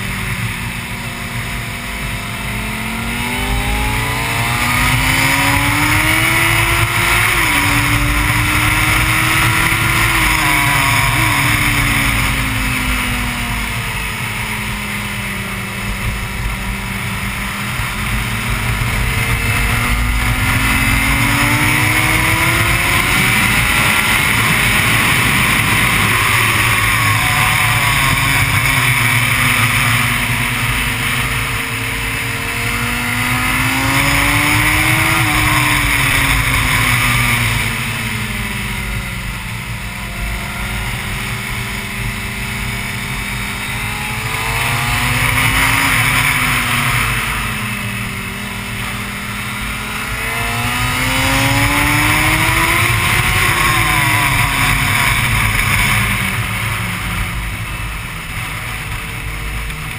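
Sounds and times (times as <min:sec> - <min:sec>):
motorcycle engine revving: 0:00.0 - 0:59.9
wind rush on microphone: 0:00.0 - 0:59.9.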